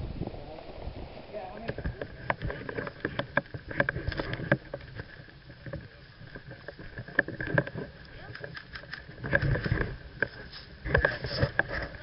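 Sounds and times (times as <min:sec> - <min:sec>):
camera handling clicks and rattle: 0:02.2 - 0:12.0.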